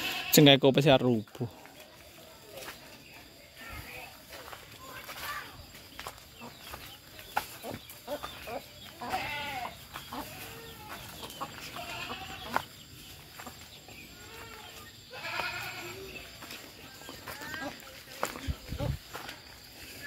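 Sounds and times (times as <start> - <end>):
farm animals calling: 0.0 - 20.0.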